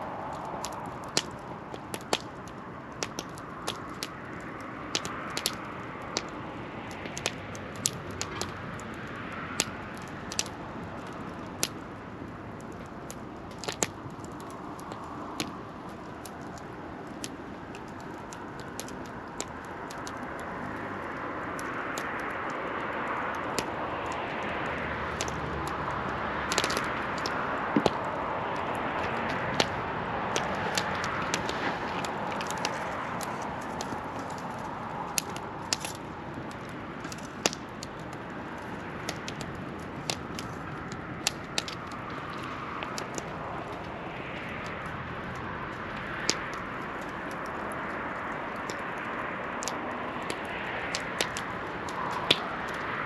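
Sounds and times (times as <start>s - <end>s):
steady rushing hiss: 0.0s - 53.0s
wood fire crackling and popping: 0.0s - 53.0s.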